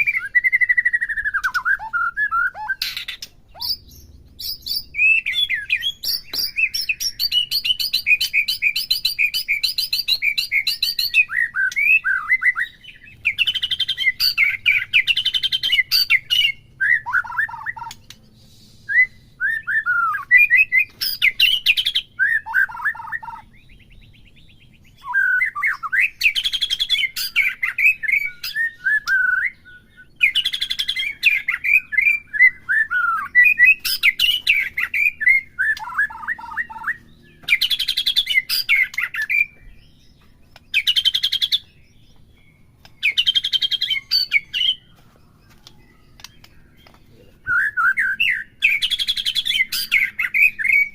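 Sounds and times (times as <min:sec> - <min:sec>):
bird whistling and trilling: 0:00.0 - 0:50.9.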